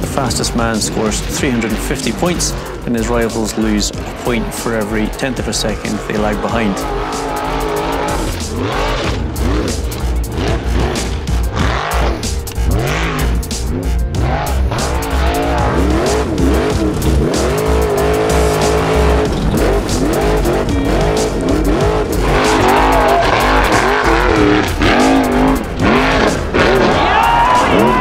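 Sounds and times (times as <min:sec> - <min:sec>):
background music: 0:00.0 - 0:28.0
car engine revving hard: 0:00.0 - 0:28.0.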